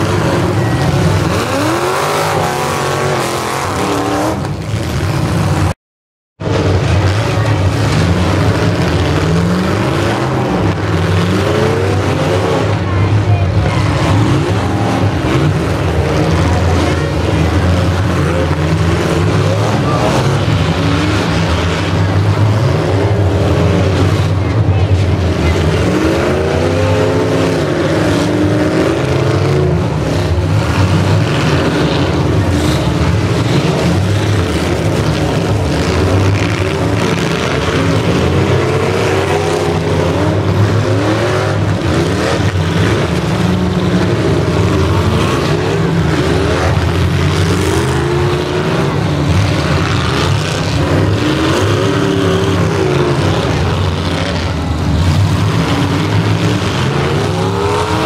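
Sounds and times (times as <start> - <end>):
car engines revving: 0.0 - 5.8, 6.4 - 58.0.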